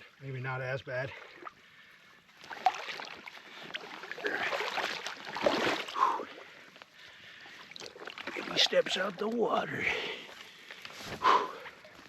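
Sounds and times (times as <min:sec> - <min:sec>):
person wading through water: 0:01.2 - 0:12.0.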